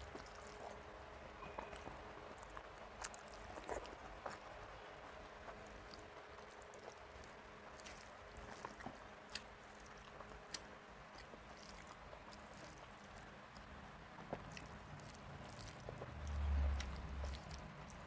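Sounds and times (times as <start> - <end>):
faint close-up chewing: 0.0 - 18.0
fingers squishing rice: 0.0 - 18.0.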